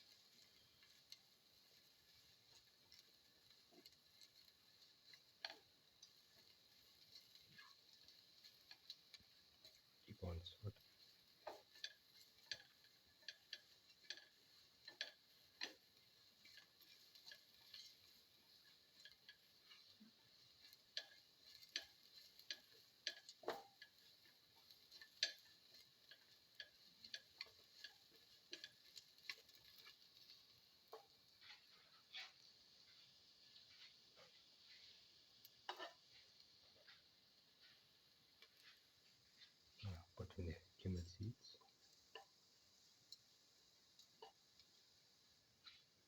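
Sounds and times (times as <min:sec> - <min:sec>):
shallots sauteing in a pan: 0:00.0 - 0:46.0.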